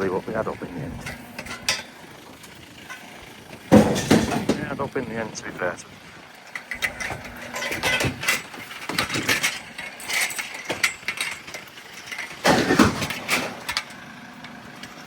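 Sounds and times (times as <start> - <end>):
scrap metal clanking: 0.0 - 15.0.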